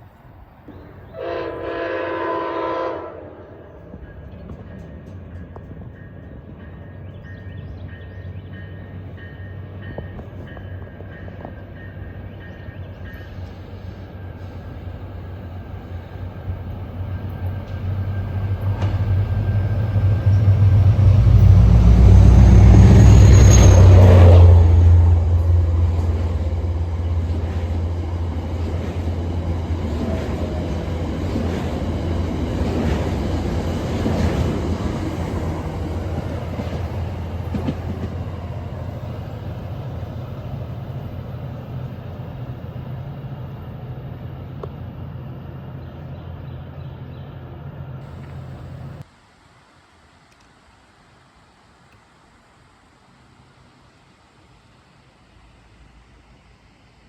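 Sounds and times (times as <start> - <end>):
train cars rumbling on rails: 0.0 - 49.0
diesel locomotive engine drone: 0.0 - 49.1.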